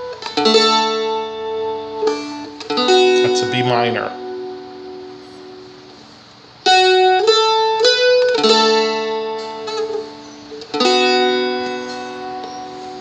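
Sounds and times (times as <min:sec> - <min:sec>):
plucked string notes: 0:00.0 - 0:13.0
strummed chord ringing: 0:00.0 - 0:13.0.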